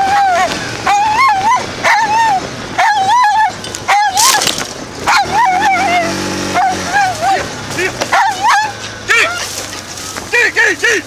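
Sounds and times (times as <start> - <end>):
dogs yelping barks: 0.0 - 10.9.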